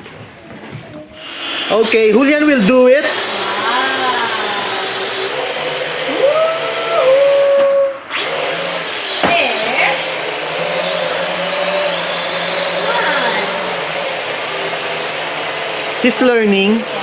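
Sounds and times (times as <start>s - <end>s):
toy quadcopter propellers whirring: 1.2s - 17.0s.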